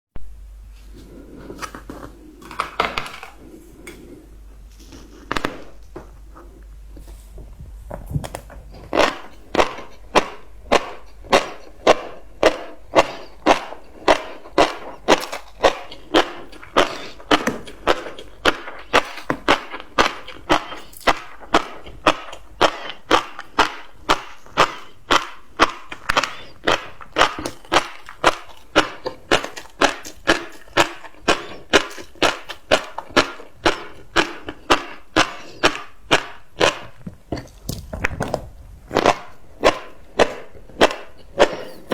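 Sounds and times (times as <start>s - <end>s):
crunchy chewing: 7.9s - 41.9s.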